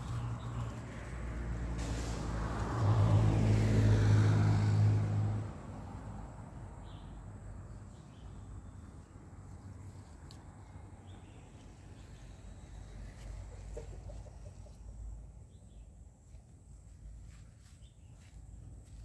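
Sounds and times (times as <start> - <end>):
vehicle engine passing by: 0.0 - 16.4.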